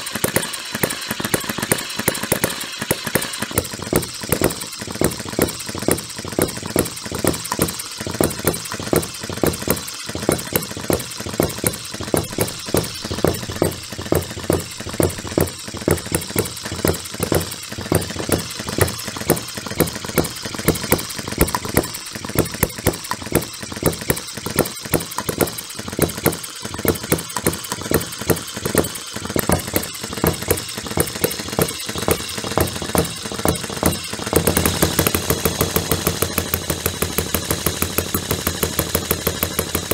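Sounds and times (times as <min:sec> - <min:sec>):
model gas engine clattering: 0:00.0 - 0:39.9.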